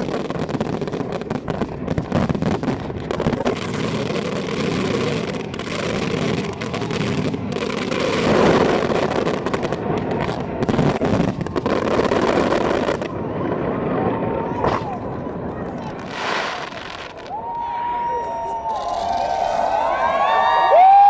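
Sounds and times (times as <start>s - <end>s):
fireworks crackling and banging: 0.0s - 17.5s.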